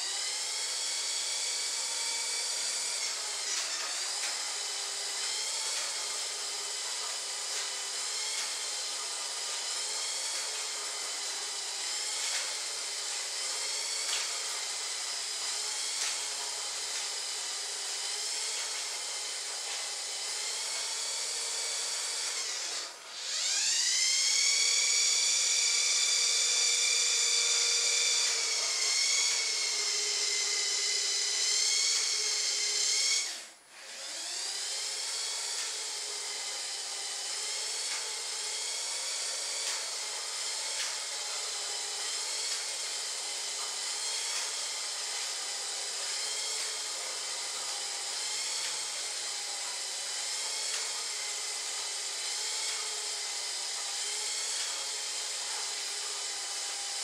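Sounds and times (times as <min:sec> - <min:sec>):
toy motor whining: 0:00.0 - 0:57.0.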